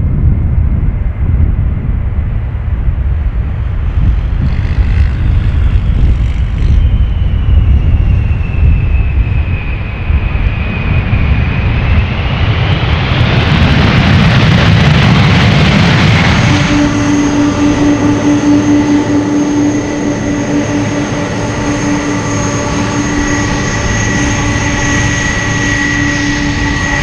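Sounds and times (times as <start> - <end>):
jet engines rumbling and whining: 0.0 - 27.0.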